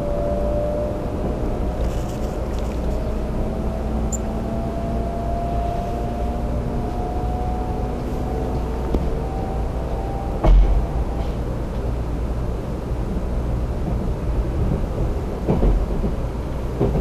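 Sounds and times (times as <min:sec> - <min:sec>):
train interior rumble and rushing: 0:00.0 - 0:17.0.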